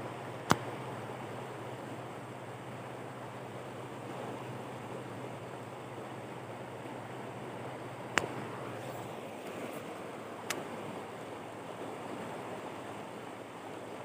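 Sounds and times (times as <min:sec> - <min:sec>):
river water rushing over stones: 0:00.0 - 0:14.0.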